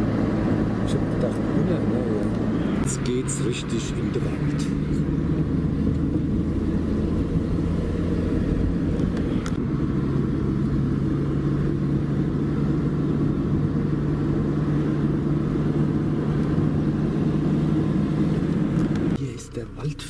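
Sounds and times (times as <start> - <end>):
car engine and tyre drone: 0.0 - 20.0.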